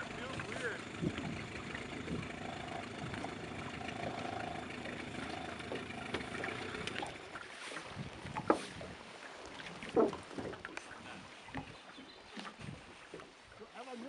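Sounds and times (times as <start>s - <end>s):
water on a lake: 0.0s - 14.0s
wind: 0.0s - 14.0s.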